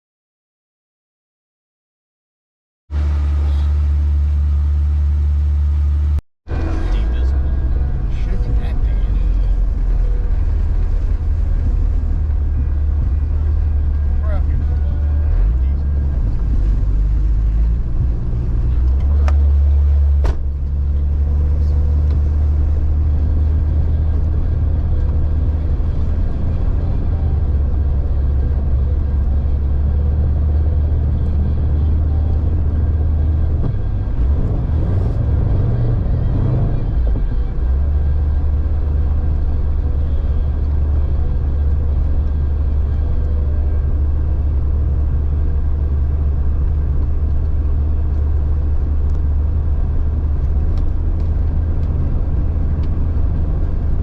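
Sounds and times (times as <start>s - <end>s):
car engine droning: 2.9s - 54.0s.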